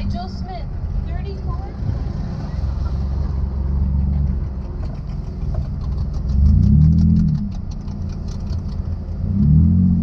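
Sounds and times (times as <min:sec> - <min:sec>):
car engine from inside cabin: 0:01.2 - 0:10.0.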